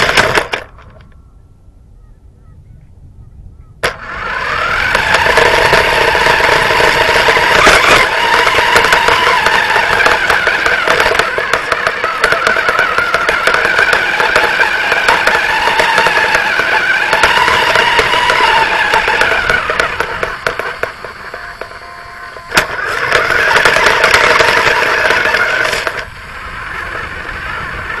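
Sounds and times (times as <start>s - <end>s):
rc car motor whining: 0.0s - 1.1s, 3.8s - 28.0s
chassis clicks and rattles: 0.0s - 1.2s, 3.8s - 26.1s.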